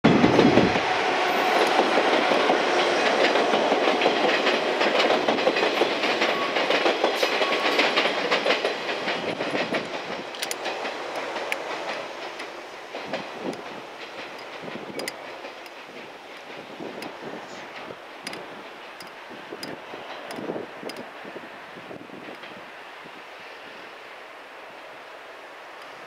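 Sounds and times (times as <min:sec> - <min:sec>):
train wheels clattering over joints: 0:00.2 - 0:22.7.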